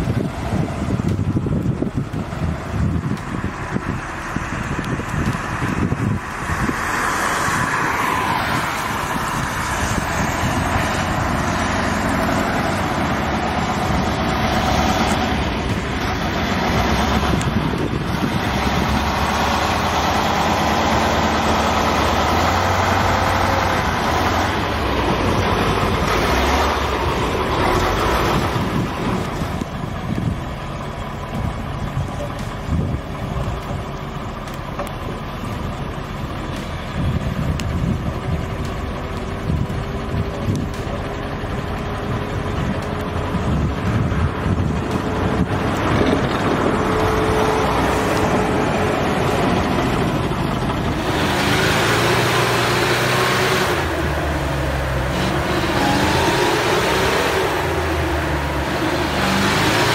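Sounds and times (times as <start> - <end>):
diesel truck driving past: 0.0 - 59.9.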